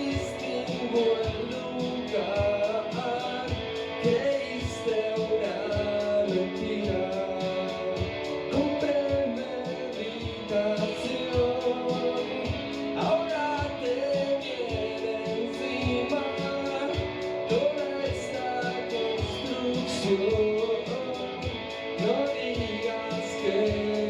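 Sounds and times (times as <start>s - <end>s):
live rock band: 0.0s - 24.0s
person singing: 0.0s - 24.0s.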